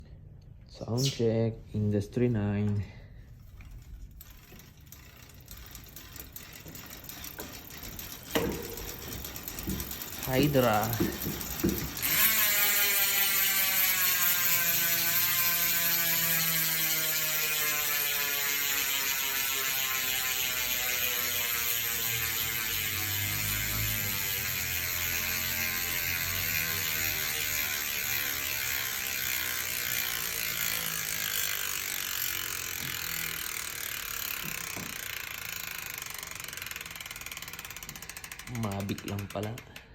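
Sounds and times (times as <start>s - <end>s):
bicycle freehub buzzing: 2.9s - 39.9s.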